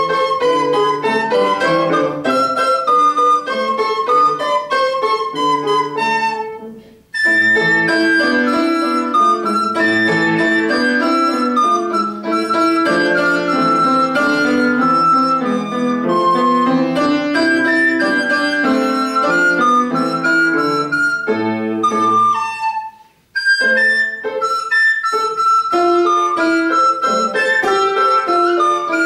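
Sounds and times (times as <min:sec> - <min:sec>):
grand piano accompaniment: 0:00.0 - 0:29.0
recorder melody: 0:00.0 - 0:29.0.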